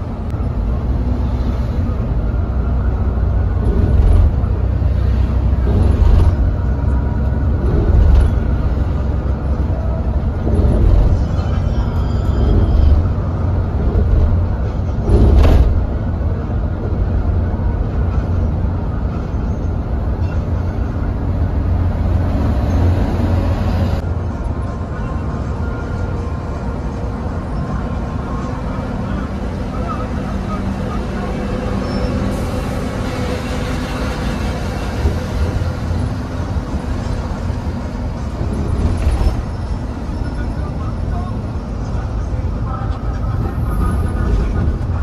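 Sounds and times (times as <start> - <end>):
coach engine and road rumble: 0.0 - 45.0.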